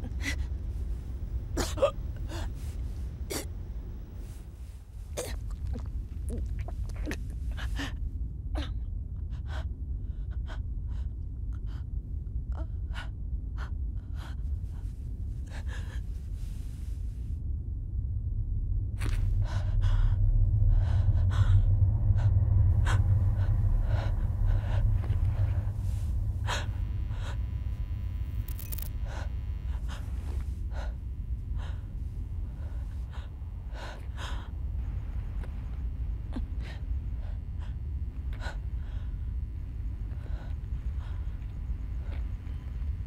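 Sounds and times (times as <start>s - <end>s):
deep steady drone: 5.5s - 43.0s.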